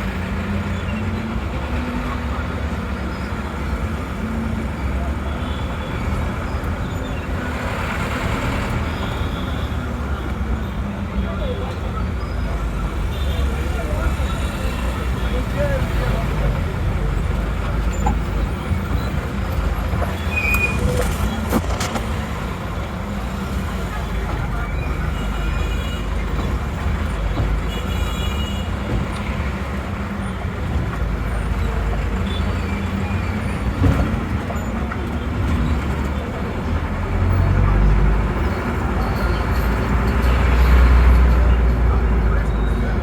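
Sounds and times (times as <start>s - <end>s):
low rumble of vehicle engines: 0.0s - 43.0s.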